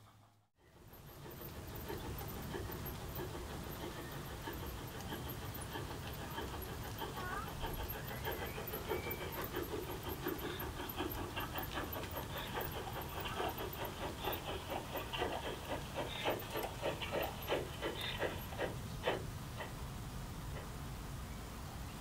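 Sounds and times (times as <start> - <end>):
model steam locomotive chuffing: 0.0 - 21.2
wheels rumbling on track: 0.1 - 22.0.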